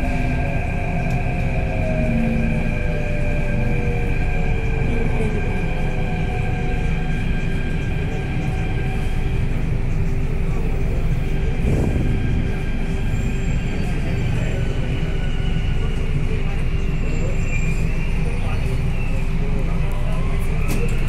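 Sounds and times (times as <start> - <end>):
train electric whine: 0.0 - 21.0
train low rumble: 0.0 - 21.0.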